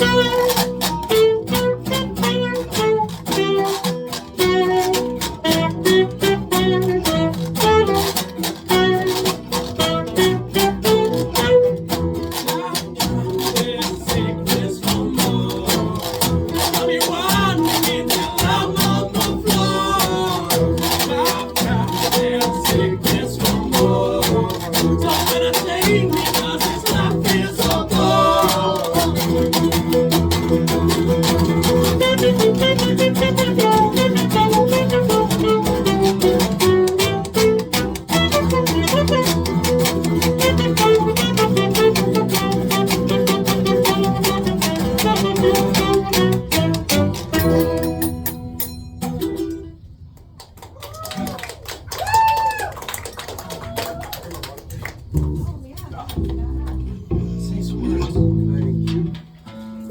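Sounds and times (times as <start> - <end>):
strummed acoustic guitar: 0.0 - 50.1, 55.0 - 59.9.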